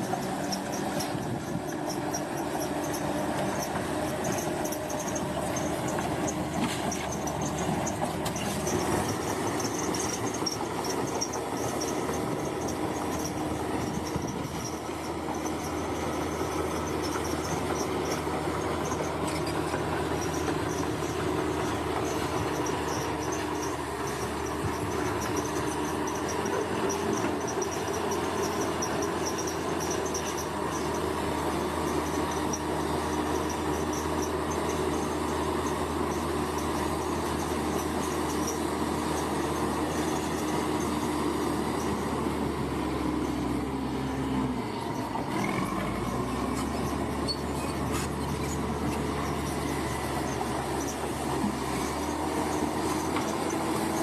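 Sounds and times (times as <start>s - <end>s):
bulldozer diesel engine running: 0.0s - 54.0s
insects chirping: 0.2s - 43.7s.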